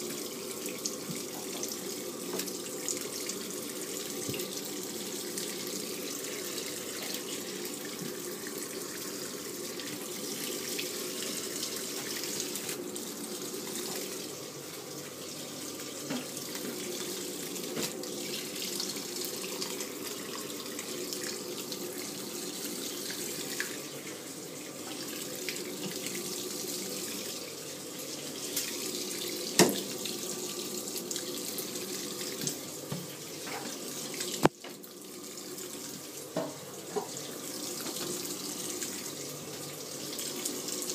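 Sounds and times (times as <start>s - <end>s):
water sloshing in washing machine: 0.0s - 40.9s.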